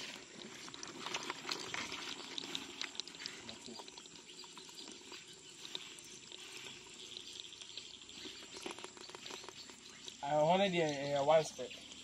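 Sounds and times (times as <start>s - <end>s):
crabs clicking in plastic bucket: 0.0s - 12.0s.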